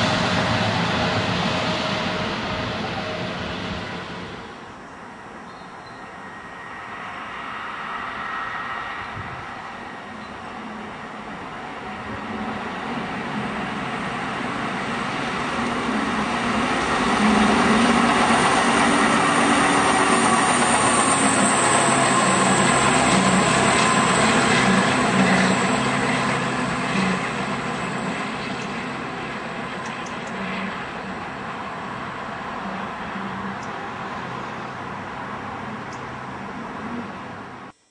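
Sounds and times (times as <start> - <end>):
rail machine passing by: 0.0 - 37.8.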